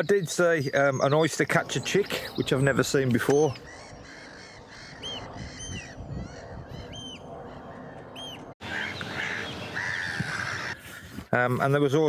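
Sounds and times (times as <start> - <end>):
birds calling: 0.0 - 11.3.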